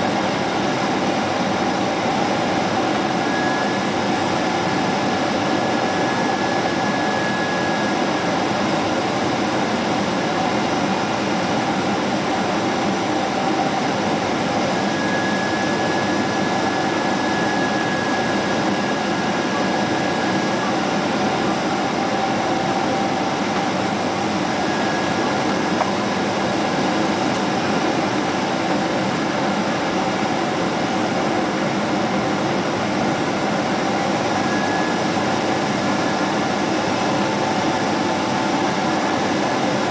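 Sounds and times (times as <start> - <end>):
airliner cabin airflow and engine: 0.0 - 39.9
faint steady whining tones: 0.0 - 39.9.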